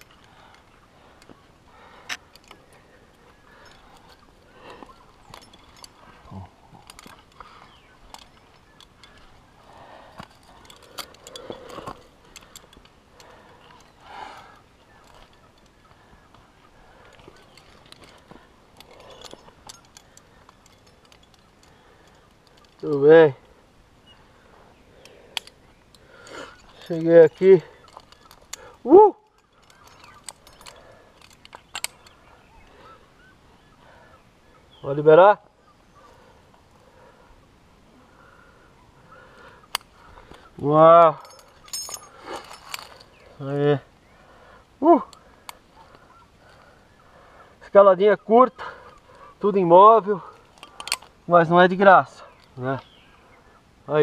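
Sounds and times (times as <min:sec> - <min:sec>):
carabiners clicking: 0:00.0 - 0:23.6, 0:24.2 - 0:34.1, 0:39.1 - 0:53.0
metal climbing gear clinking: 0:00.0 - 0:37.4, 0:38.2 - 0:54.0.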